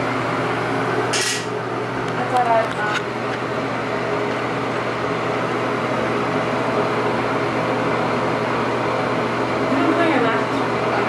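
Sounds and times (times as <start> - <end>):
ventilation fan humming: 0.0 - 11.0.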